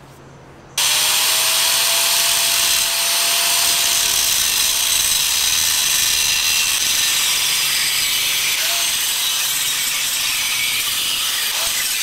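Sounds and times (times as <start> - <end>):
angle grinder grinding metal: 0.8 - 12.0.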